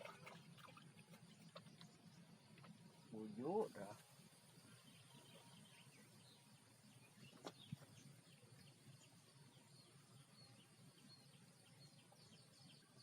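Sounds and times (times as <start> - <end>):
faint small birds chirping: 0.1 - 13.0.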